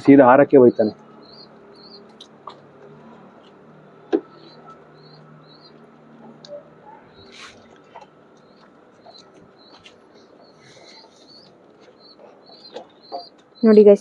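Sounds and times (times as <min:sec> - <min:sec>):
high-pitched bird chirps: 0:00.8 - 0:02.4, 0:04.2 - 0:14.0.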